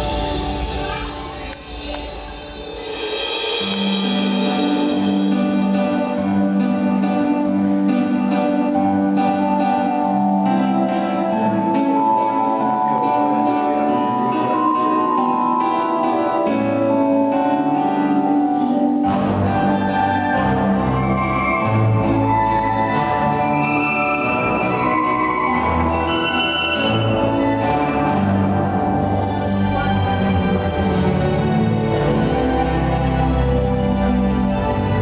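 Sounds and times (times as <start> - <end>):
instrumental music held notes: 2.8 - 35.0.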